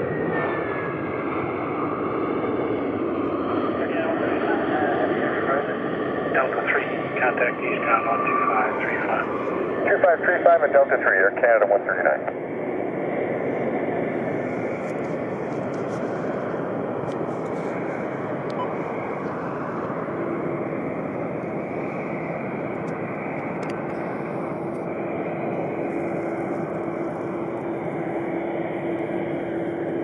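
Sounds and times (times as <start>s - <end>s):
jet airliner rolling on runway: 0.0s - 30.0s
steady low hum: 5.4s - 30.0s.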